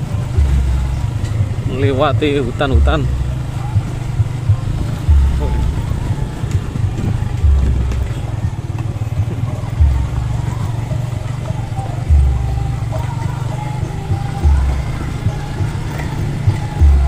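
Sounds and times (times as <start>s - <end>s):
heavy low thumps: 0.0s - 13.0s, 14.1s - 15.4s, 16.4s - 17.0s
motorcycle engine on rough track: 0.0s - 17.0s.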